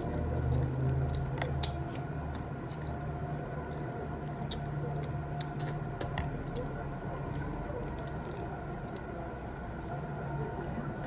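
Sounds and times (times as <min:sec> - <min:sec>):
wet chewing and lip-smacking: 0:00.0 - 0:09.1.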